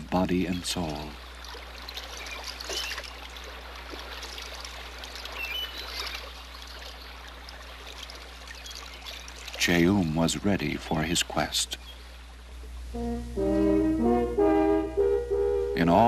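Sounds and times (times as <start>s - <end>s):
people wading through water: 0.0s - 12.9s
steady low hum: 0.0s - 16.0s
stream water running: 0.0s - 16.0s.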